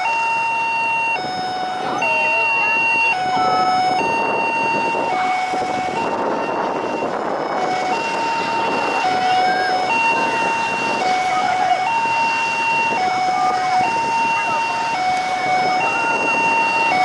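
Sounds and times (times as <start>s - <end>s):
two-tone emergency siren: 0.0s - 17.0s.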